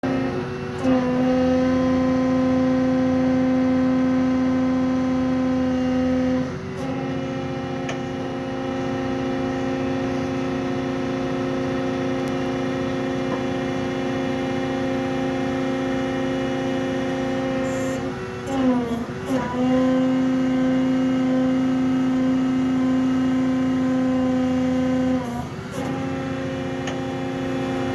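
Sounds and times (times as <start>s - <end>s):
excavator engine and hydraulic pump: 0.0s - 27.9s.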